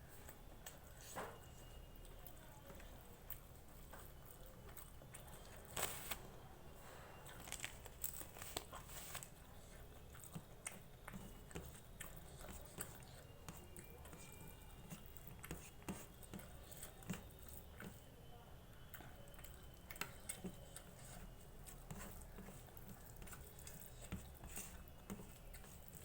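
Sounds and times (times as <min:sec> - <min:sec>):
chewing with wet mouth clicks: 0:00.2 - 0:05.7, 0:07.3 - 0:18.1, 0:18.7 - 0:26.0.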